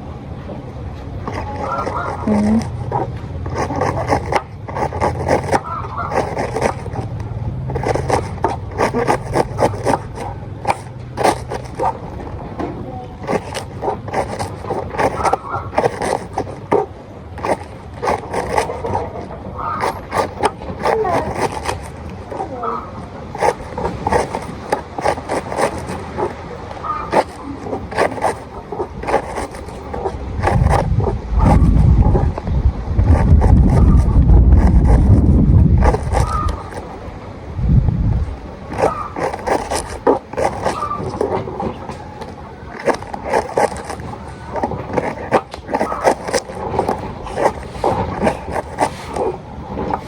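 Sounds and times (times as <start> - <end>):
wind buffeting microphone: 0.0 - 50.0
knife cutting cabbage: 1.2 - 12.3, 12.9 - 37.1, 38.2 - 50.0.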